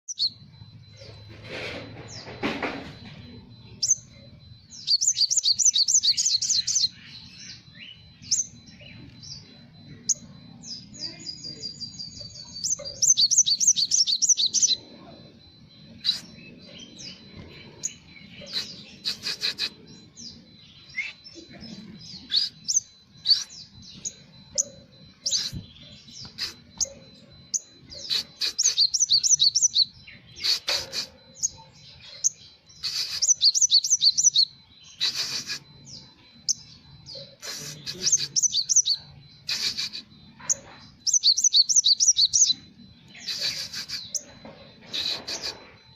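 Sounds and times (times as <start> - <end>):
bird song trills and chirps: 0.0 - 45.9
faint steady high tone: 0.1 - 45.9.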